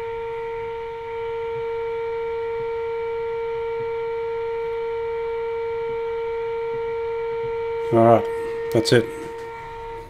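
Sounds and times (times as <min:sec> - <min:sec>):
steady test tone from radio speaker: 0:00.0 - 0:10.0.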